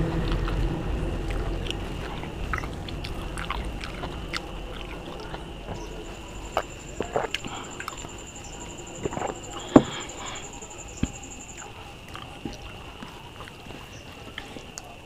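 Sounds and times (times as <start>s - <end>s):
swallowing water: 0.0s - 15.0s
wet mouth clicks: 1.2s - 13.6s.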